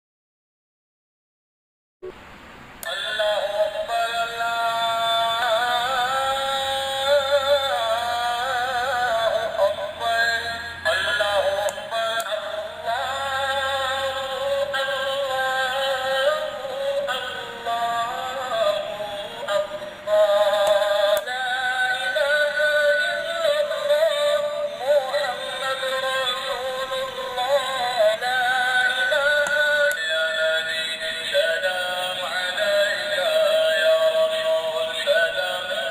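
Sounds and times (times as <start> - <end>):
man singing call to prayer: 2.8 - 35.9.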